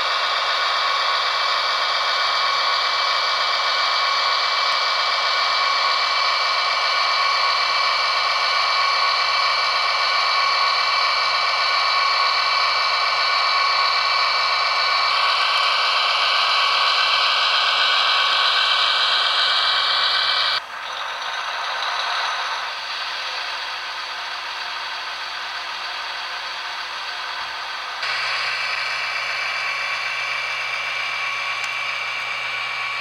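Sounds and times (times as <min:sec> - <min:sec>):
model train engine sound: 0:00.0 - 0:33.0.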